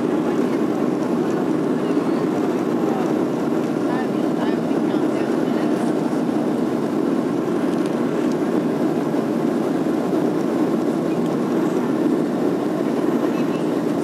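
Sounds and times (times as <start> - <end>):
airliner cabin engine noise: 0.0 - 14.0.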